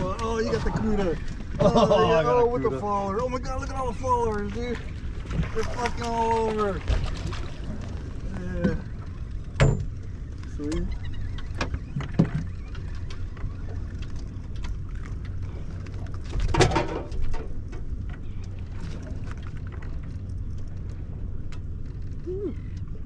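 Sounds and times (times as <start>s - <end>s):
water against kayak hull: 0.0s - 23.0s.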